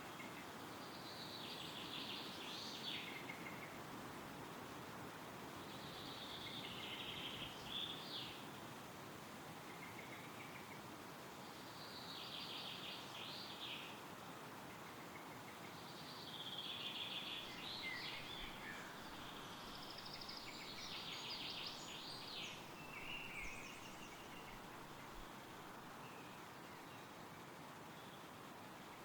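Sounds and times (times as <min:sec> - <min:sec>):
songbirds singing: 0:00.0 - 0:03.9, 0:05.5 - 0:08.7, 0:09.5 - 0:29.0
wind through trees: 0:00.0 - 0:29.0.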